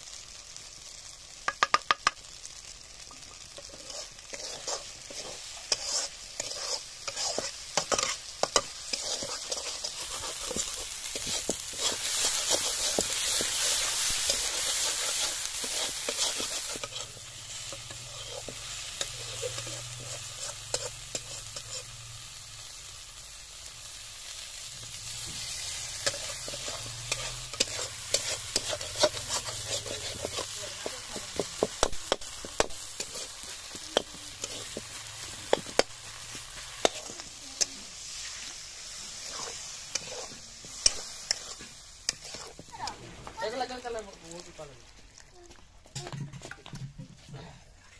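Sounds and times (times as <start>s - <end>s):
paste sizzling in a pan: 0.0s - 47.9s
metal spatula scraping a pan: 2.6s - 22.1s, 25.2s - 44.2s.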